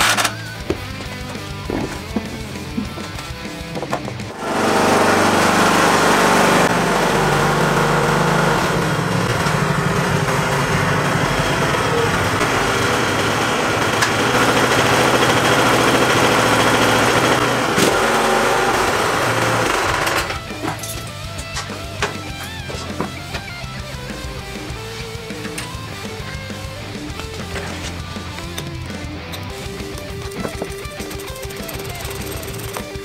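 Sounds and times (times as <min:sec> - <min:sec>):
lawn tractor engine running: 0:00.0 - 0:33.0.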